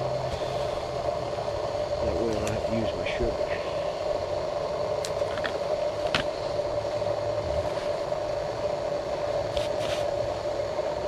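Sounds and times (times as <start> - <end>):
gas stove burner humming: 0.0 - 11.0.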